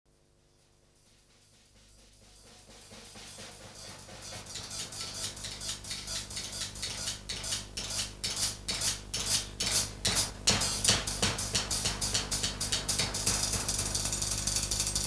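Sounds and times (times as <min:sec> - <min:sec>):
cymbals struck in rhythm: 0:00.9 - 0:15.0.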